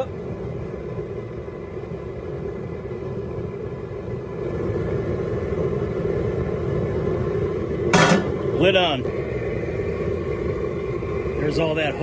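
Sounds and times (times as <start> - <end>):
propane burner rushing: 0.0 - 12.0.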